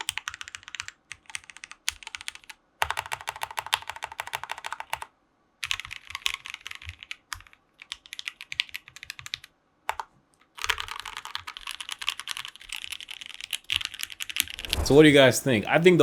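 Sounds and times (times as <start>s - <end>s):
mechanical keyboard typing: 0.0s - 14.5s.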